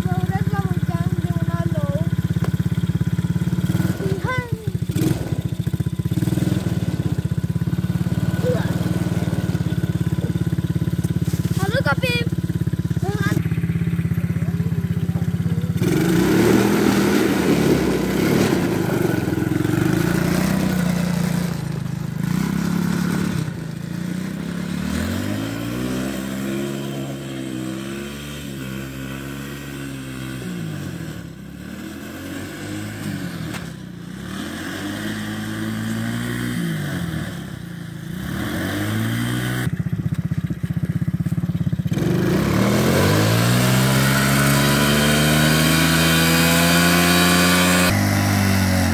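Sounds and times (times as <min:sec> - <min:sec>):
quad bike engine revving: 0:00.0 - 0:48.9.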